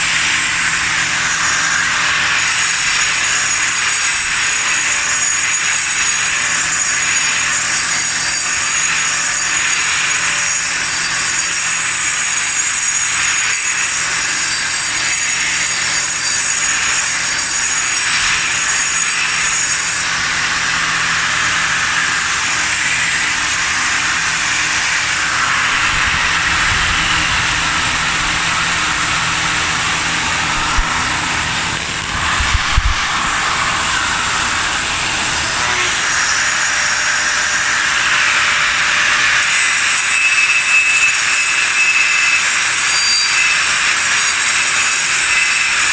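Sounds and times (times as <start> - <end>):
grinder on concrete: 0.0 - 45.9.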